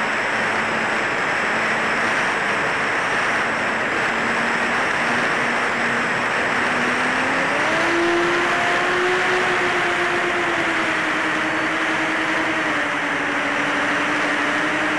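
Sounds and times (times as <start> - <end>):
electric motor tone: 0.0 - 14.9.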